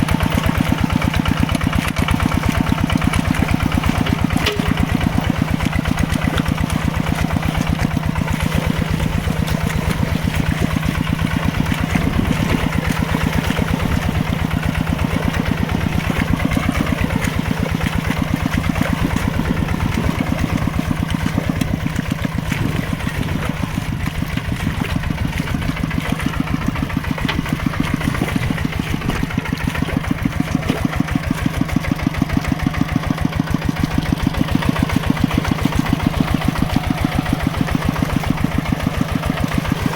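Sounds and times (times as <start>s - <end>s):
tractor engine pulsing: 0.0s - 39.9s.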